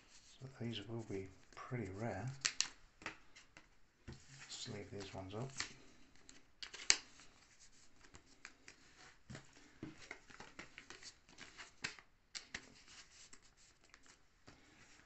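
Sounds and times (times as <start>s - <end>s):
cards and foil wrapper crinkling: 1.5s - 3.7s, 4.5s - 15.0s.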